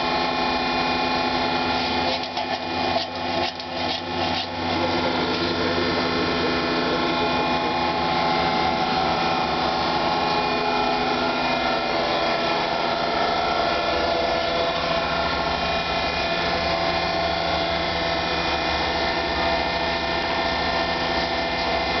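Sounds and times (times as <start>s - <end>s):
machine hum with whining tones: 0.0s - 22.0s.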